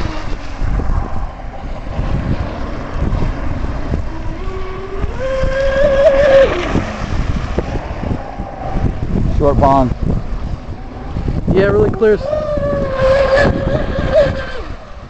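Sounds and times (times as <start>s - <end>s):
electric motor whining: 0.0s - 15.0s
wind rumbling on microphone: 0.0s - 15.0s.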